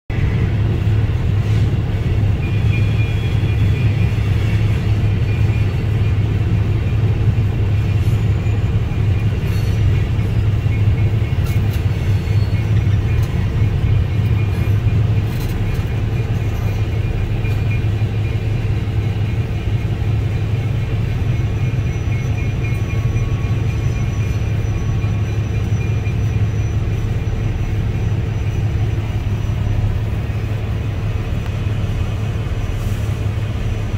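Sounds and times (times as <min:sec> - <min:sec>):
freight train rumbling: 0:00.1 - 0:33.9.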